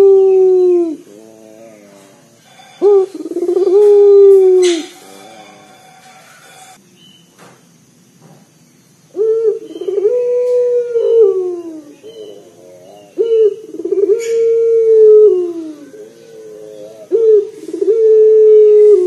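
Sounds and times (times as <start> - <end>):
dove cooing: 0.0 - 5.8, 9.1 - 19.0.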